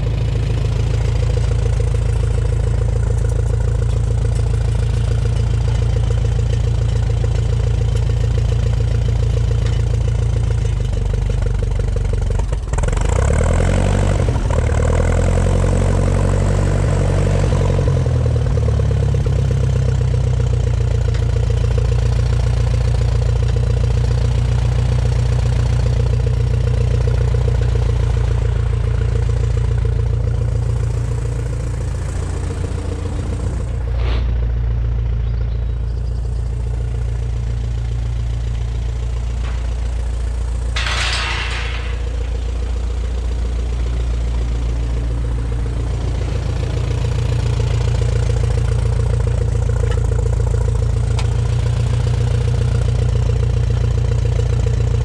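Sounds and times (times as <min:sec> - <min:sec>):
tractor engine ticking over: 0:00.0 - 0:55.0.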